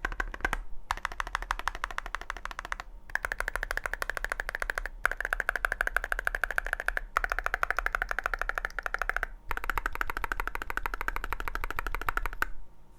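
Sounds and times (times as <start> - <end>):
rapid keyboard typing: 0.0 - 12.6.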